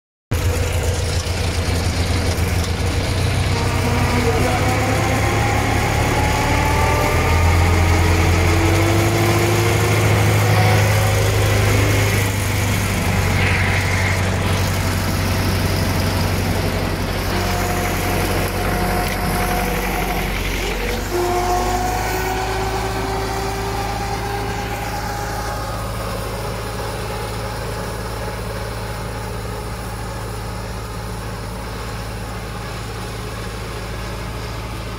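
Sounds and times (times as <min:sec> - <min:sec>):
tractor diesel engine running: 0:00.3 - 0:34.9
thin whine rising in pitch: 0:00.4 - 0:30.0.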